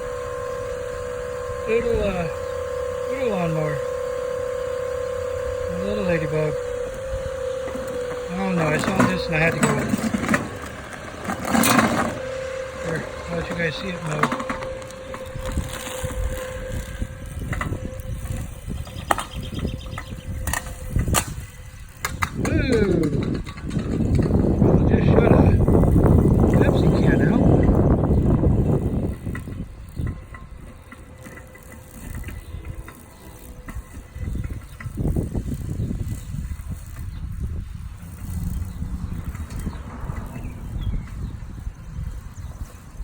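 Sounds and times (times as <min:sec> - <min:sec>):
lawn mower motor whining: 0:00.0 - 0:43.0.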